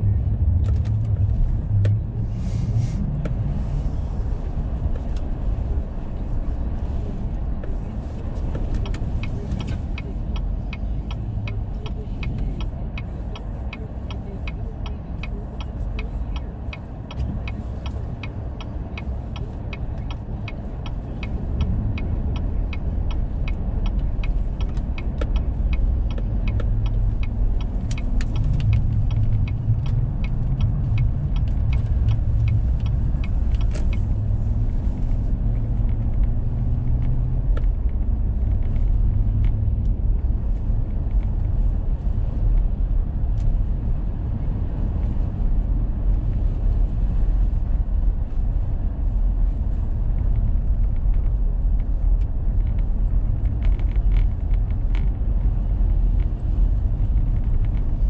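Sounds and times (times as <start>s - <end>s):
turn signal ticking: 0.0s - 2.3s, 3.0s - 58.0s
engine and tyre rumble: 0.0s - 58.0s.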